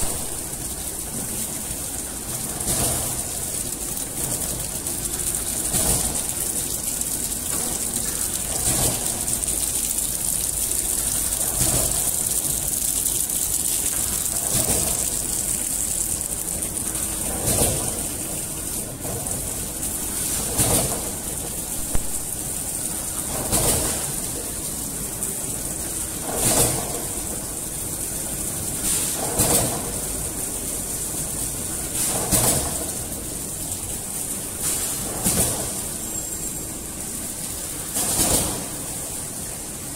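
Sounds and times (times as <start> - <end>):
wrapping machine hum and hiss: 0.0 - 39.9.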